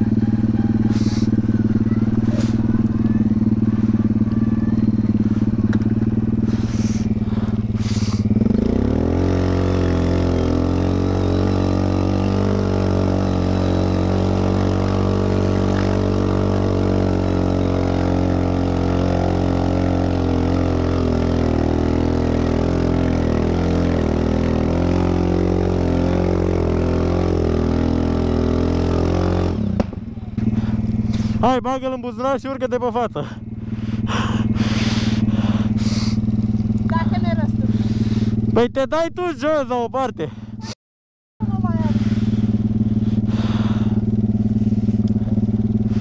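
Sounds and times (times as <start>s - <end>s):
atv engine running: 0.0s - 40.8s, 41.4s - 46.0s.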